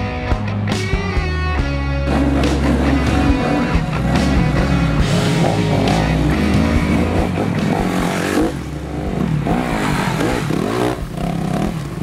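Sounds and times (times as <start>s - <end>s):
dirt bike engines revving: 1.7s - 12.0s.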